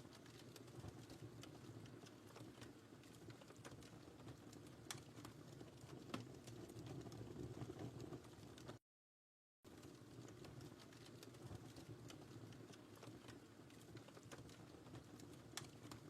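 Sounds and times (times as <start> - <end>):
faint fire crackling: 0.0 - 8.8, 9.7 - 16.0.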